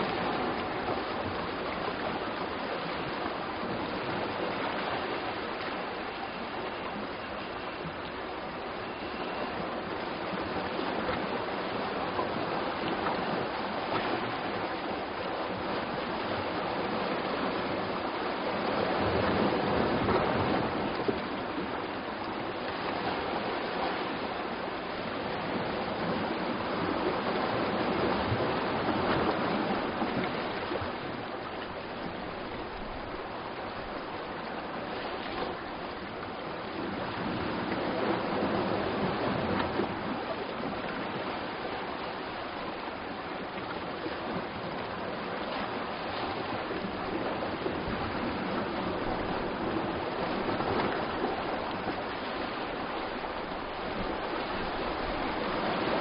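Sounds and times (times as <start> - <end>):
surf on rocky shore: 0.0 - 56.0.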